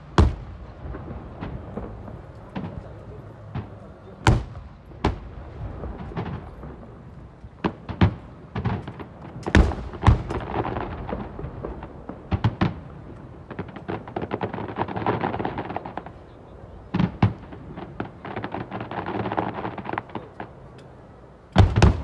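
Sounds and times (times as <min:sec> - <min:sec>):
dense rapid firework crackling: 0:00.0 - 0:20.7, 0:21.5 - 0:22.0.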